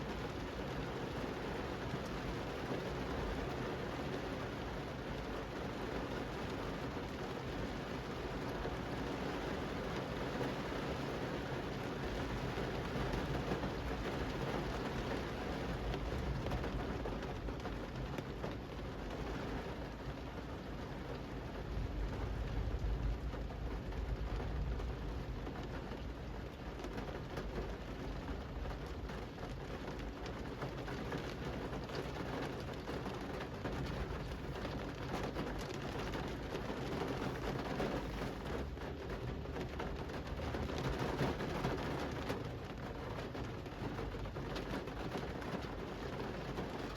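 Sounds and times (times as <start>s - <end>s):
rain on pavement: 0.0s - 46.9s.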